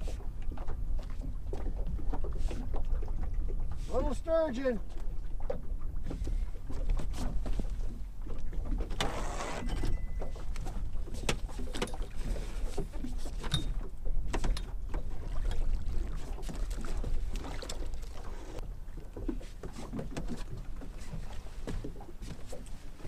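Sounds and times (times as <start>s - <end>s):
water lapping against boat: 0.0s - 23.0s.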